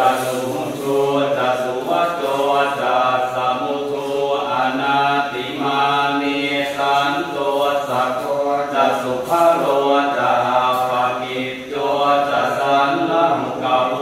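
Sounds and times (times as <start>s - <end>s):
monks chanting: 0.0s - 14.0s.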